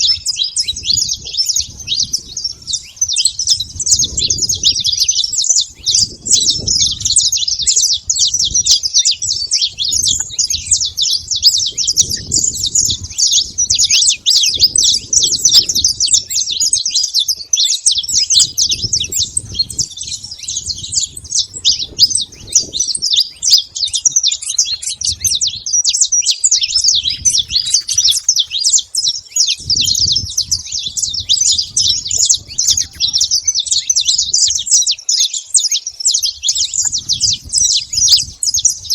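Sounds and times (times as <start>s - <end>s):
finch singing: 0.0s - 38.9s.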